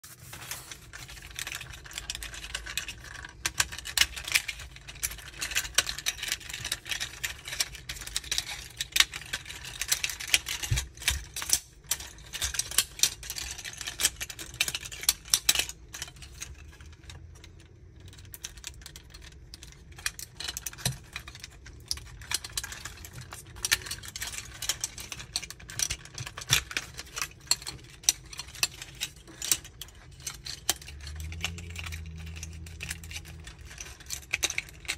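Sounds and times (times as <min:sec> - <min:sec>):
plastic toy parts clicking and snapping: 0:00.6 - 0:34.9.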